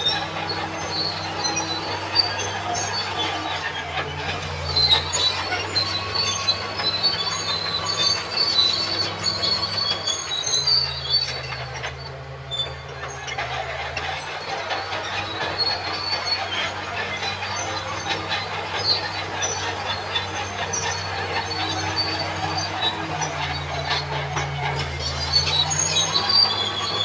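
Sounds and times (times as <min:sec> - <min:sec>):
diesel engine running: 0:00.0 - 0:27.0
steel tracks squealing and clanking: 0:00.0 - 0:27.0.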